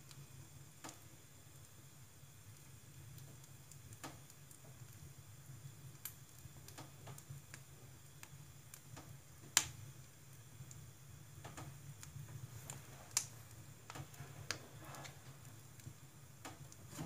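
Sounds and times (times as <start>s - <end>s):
logs crackling and popping: 0.0s - 17.0s.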